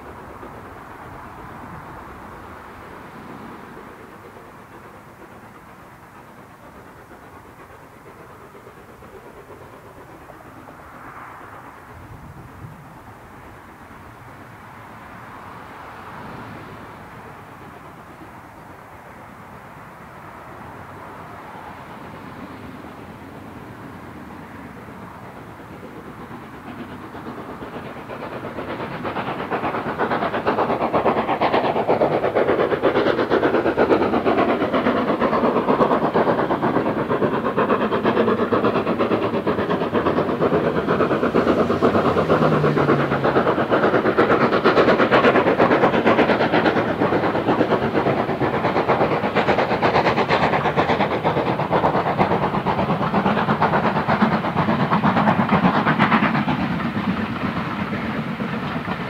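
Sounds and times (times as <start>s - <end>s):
steam locomotive chuffing: 0.0s - 59.0s
train coaches rolling: 0.0s - 59.0s.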